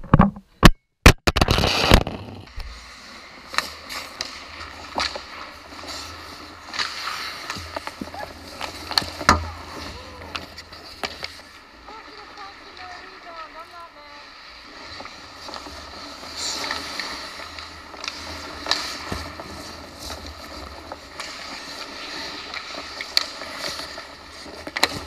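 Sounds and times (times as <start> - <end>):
skate blades scraping on ice: 1.5 - 25.0
hockey sticks and puck clacking: 3.4 - 13.8, 14.9 - 25.0.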